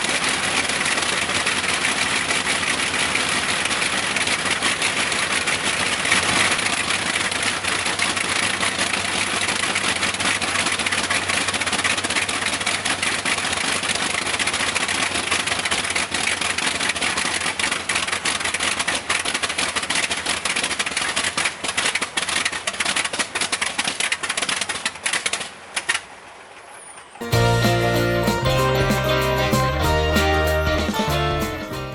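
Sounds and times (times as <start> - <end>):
old engine clattering: 0.0 - 25.4, 27.2 - 31.9.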